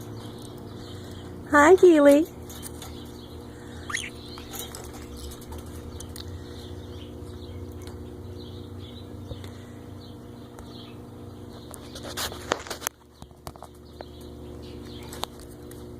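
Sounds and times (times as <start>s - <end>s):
birds chirping softly: 0.0s - 15.9s
steady low hum: 0.0s - 15.9s.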